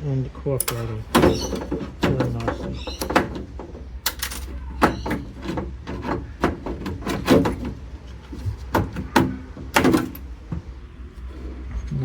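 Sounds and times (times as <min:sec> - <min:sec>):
metal parts and tools clanking: 0:00.6 - 0:10.6.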